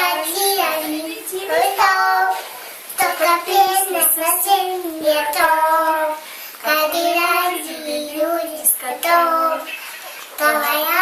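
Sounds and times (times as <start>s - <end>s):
toddler singing wordless syllables: 0.0s - 9.7s, 10.4s - 11.0s.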